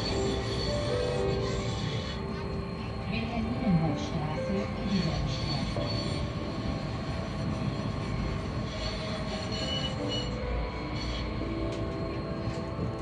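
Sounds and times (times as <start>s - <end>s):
wheel squeals: 0.0s - 3.0s, 4.4s - 13.0s
tram wheels rumbling on rails: 0.0s - 13.0s.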